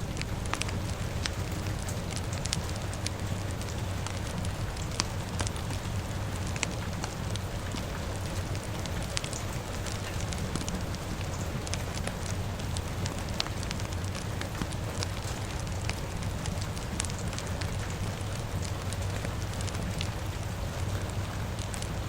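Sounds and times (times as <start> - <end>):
fire crackling and popping: 0.0 - 22.0
rain falling: 0.0 - 22.0.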